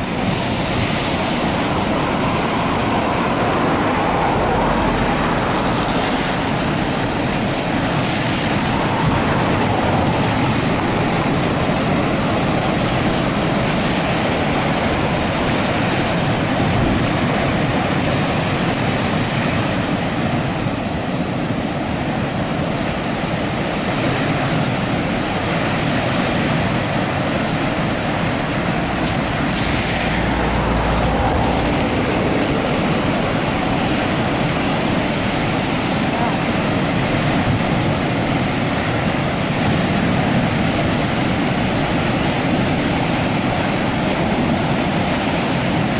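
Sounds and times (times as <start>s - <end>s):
surf breaking on rocky shore: 0.0s - 45.9s.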